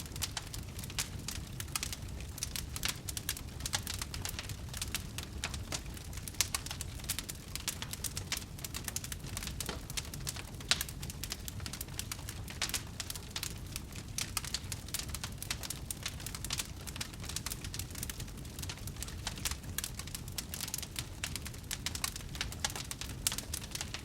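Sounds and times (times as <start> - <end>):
low rumble of flame: 0.0 - 24.0
wood crackling in campfire: 0.0 - 24.0.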